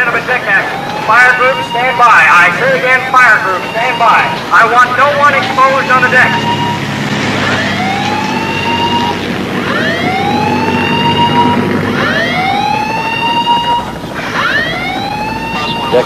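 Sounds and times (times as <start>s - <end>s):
rising whoop alarm siren: 0.6s - 6.9s, 7.5s - 16.0s.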